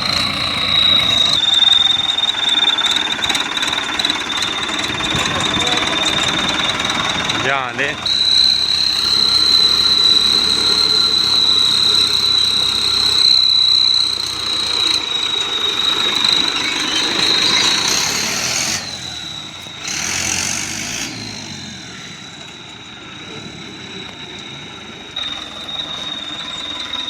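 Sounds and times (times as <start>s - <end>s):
high-pitched turbo whistle: 0.0s - 27.0s
tractor engine running: 0.0s - 27.0s.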